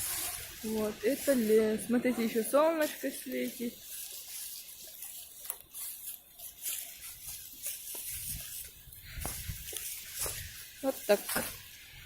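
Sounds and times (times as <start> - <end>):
footsteps on leaf litter: 0.0 - 12.0.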